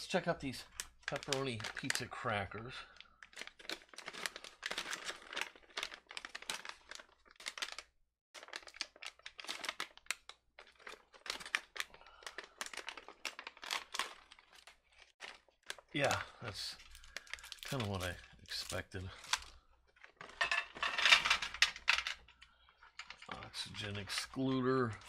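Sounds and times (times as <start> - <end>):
plastic pouch crinkling: 0.4 - 20.5, 23.0 - 25.0.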